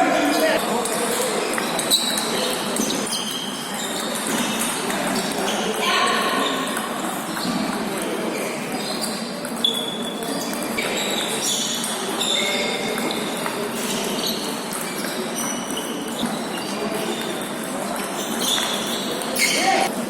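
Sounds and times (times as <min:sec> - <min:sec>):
murmur of busy playing hall: 0:00.0 - 0:20.0
ping pong ball clicking on paddles: 0:00.6 - 0:08.2, 0:09.0 - 0:19.4.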